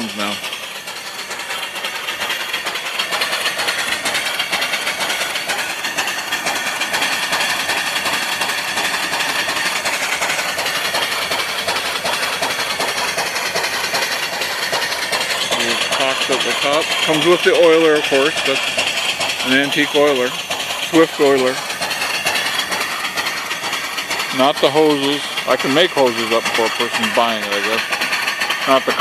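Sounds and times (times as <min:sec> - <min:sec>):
steam engine running: 0:00.0 - 0:29.0.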